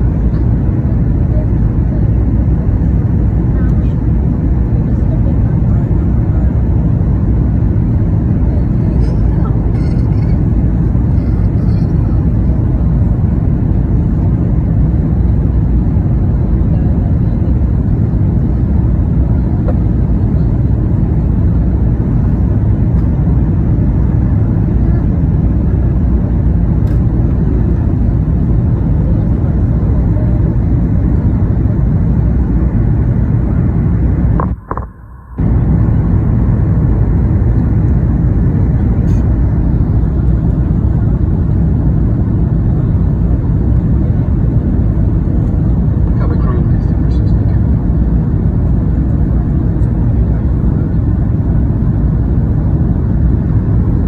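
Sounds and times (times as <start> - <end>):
vehicle rumbling in motion: 0.0 - 54.0.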